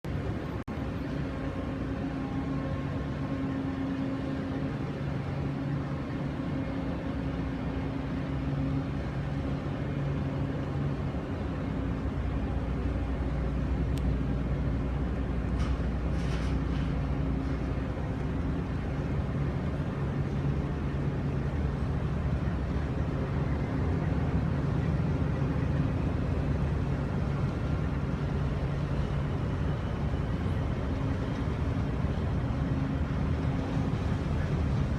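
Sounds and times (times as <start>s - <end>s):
ship engines droning: 0.1s - 34.9s
water rumbling: 0.1s - 34.9s.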